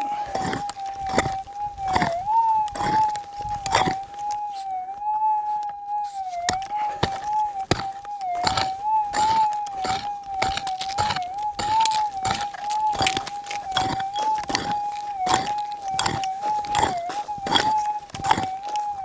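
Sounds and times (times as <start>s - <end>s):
crunches and scrapes: 0.0s - 4.8s, 5.6s - 19.0s.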